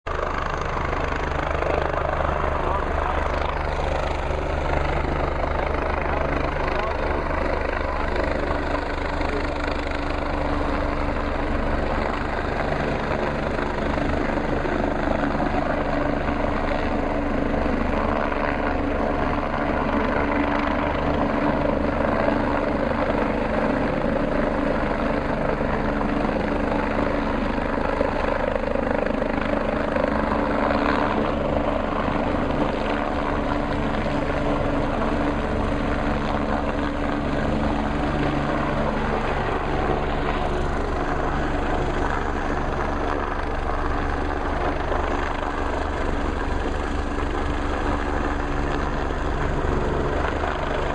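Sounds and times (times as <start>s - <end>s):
helicopter rotor and turbine: 0.0s - 50.9s.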